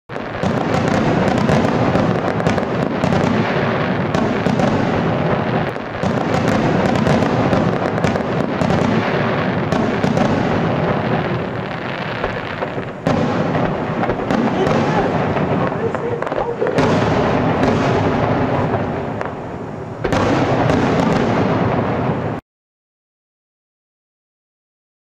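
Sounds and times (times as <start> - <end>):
fireworks bursts and crackling: 0.1 - 22.4.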